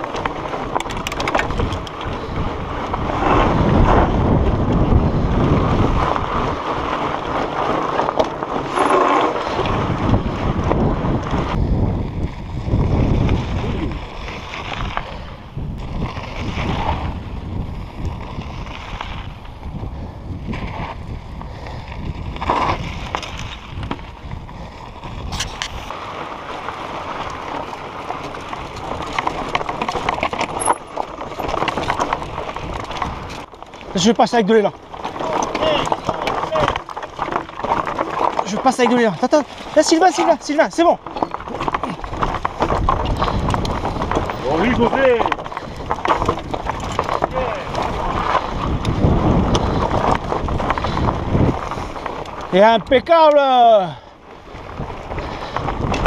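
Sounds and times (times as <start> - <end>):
tyres crunching on loose stones: 0.0 - 19.8, 20.4 - 56.0
wind buffeting microphone: 0.0 - 56.0.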